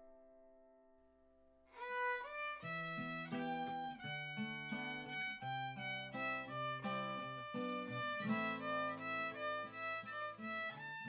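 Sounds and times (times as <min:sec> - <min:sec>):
instrumental background music: 0:01.8 - 0:11.0.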